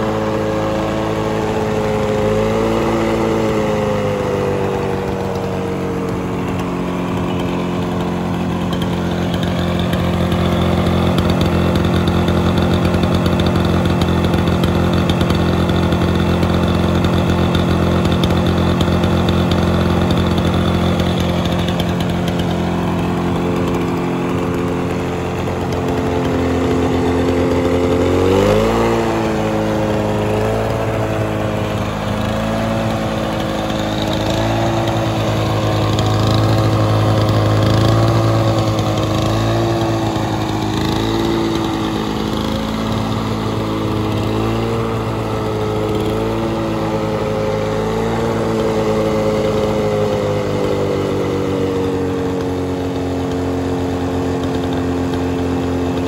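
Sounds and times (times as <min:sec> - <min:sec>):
lawn mower engine cutting grass: 0:00.0 - 0:56.0.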